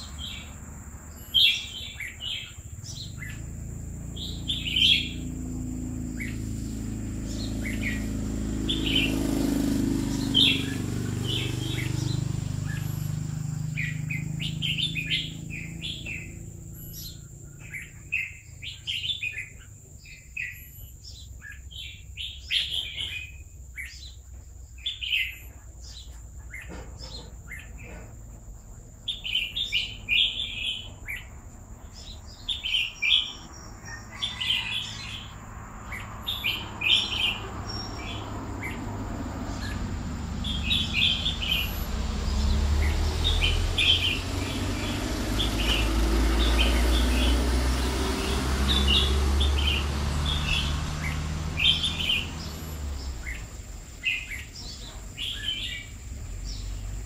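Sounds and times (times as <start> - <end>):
bird singing warbled phrases: 0.0 - 57.0.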